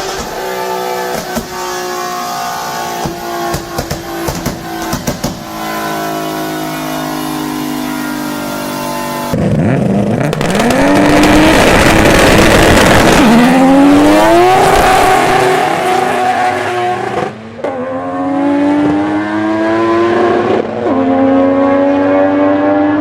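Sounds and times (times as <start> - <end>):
car engine accelerating through gears: 0.0 - 23.0.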